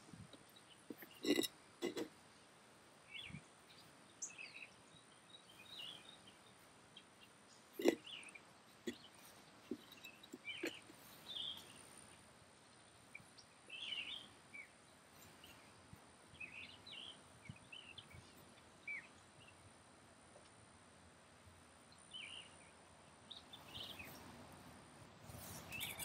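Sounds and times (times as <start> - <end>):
birds chirping: 0.0 - 2.1, 3.0 - 19.6, 21.9 - 24.3, 25.4 - 26.0
faint steady background: 0.0 - 26.0.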